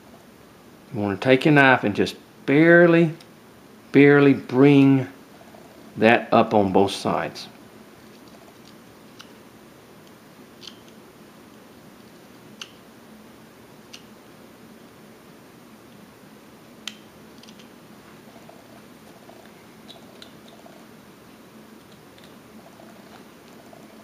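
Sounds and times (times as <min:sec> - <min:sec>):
low steady hiss: 0:00.0 - 0:24.0.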